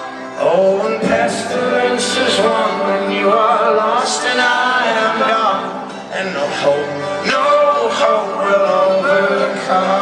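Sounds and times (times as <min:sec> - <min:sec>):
live folk-rock band: 0:00.0 - 0:10.0
people singing: 0:00.0 - 0:10.0.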